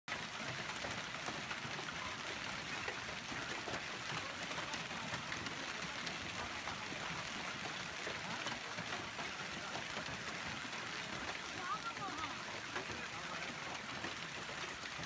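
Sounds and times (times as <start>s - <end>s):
hail on ground and car: 0.1s - 15.0s.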